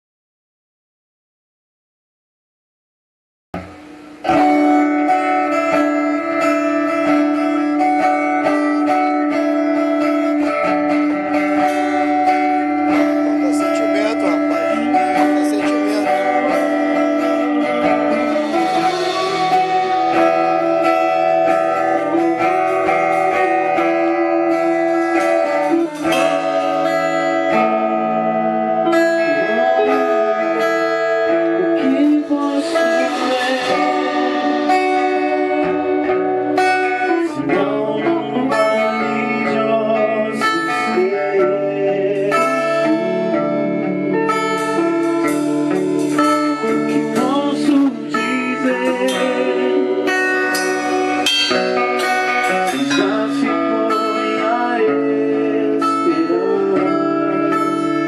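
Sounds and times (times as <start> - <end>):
guitar: 3.6 - 58.0
worship band playing live: 3.6 - 58.0.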